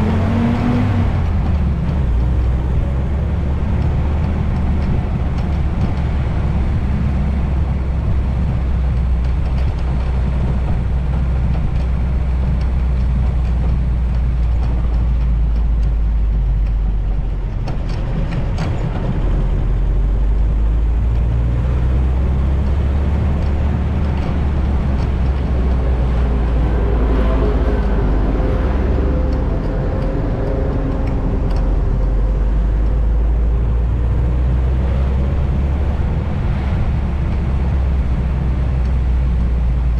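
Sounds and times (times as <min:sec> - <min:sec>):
car engine and road rumble: 0:00.0 - 0:39.9
wind buffeting microphone: 0:00.0 - 0:39.9.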